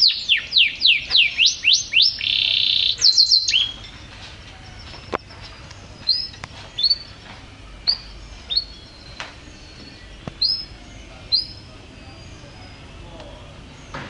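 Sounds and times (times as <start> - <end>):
canary chirping: 0.0 - 13.1.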